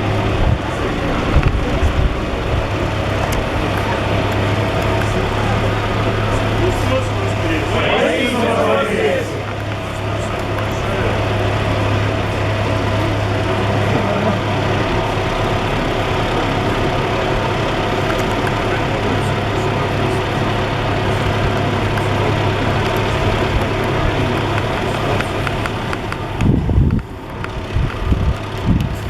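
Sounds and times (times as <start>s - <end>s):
dense background noise: 0.0s - 29.0s
low engine hum: 0.0s - 29.0s.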